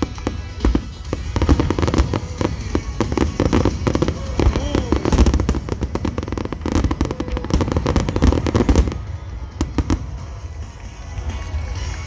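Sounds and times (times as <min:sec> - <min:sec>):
fireworks crackling pops and bangs: 0:00.0 - 0:12.0
low fireworks booms: 0:00.0 - 0:12.0.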